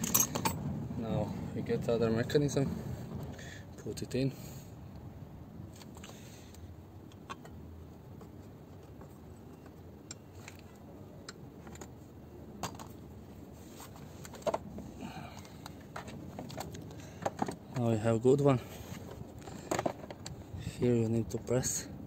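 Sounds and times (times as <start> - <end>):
faint steady background noise: 0.0 - 22.0.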